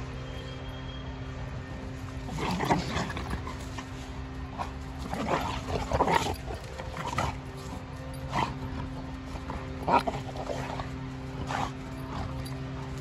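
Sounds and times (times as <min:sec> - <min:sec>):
steady low hum: 0:00.0 - 0:13.0
dogs vocalising while play-fighting: 0:02.2 - 0:13.0.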